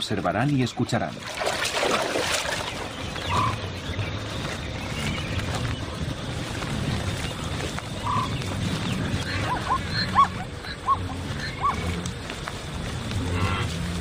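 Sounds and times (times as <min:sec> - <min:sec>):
rumble of hooves: 0:00.0 - 0:14.0.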